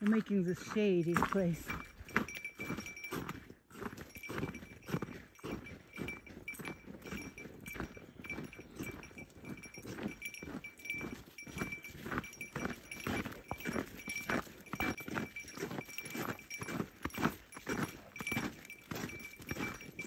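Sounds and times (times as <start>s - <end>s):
footsteps crunching on snow: 0.0s - 20.0s.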